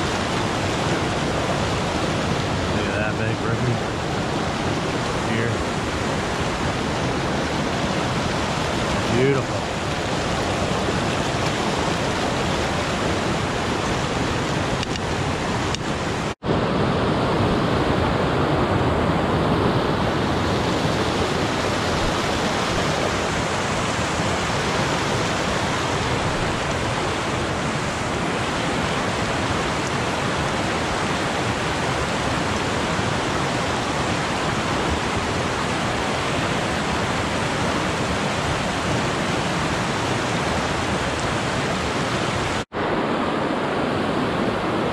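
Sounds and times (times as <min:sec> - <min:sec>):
creek rushing over rocks: 0:00.0 - 0:44.9.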